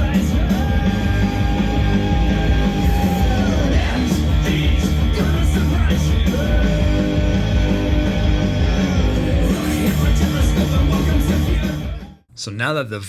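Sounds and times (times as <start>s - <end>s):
loud rock music with singing: 0.0s - 12.3s.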